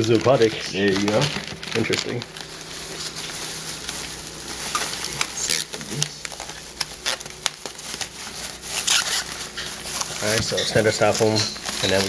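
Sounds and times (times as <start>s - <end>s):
paper and plastic bags rustling: 0.0s - 12.0s.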